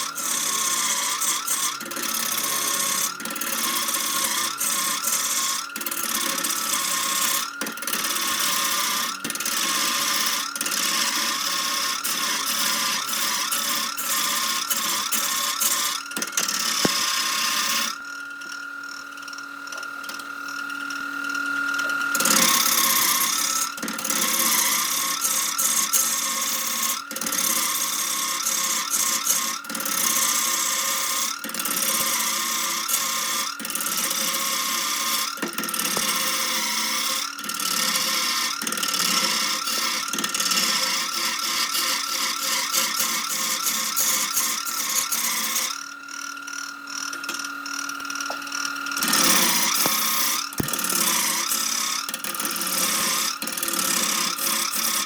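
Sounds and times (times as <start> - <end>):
tool scraping spinning wood: 0.0 - 18.0, 21.8 - 55.0
lathe motor whine: 0.0 - 55.0.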